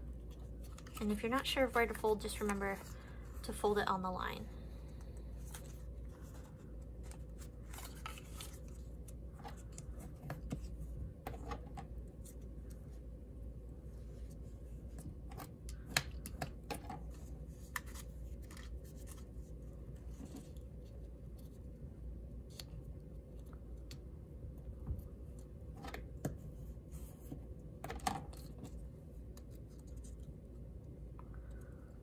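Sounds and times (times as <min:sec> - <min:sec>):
low background hum: 0:00.0 - 0:32.0
cardstock folding and crackling: 0:00.1 - 0:03.6, 0:04.8 - 0:13.1, 0:14.0 - 0:30.6.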